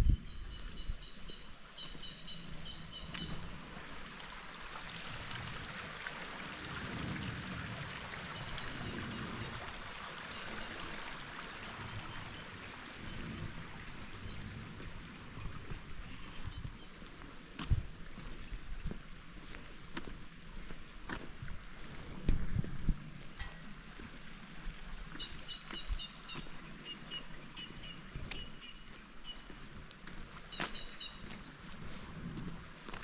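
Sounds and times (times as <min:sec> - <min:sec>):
creek rushing over rocks: 0:03.2 - 0:30.5.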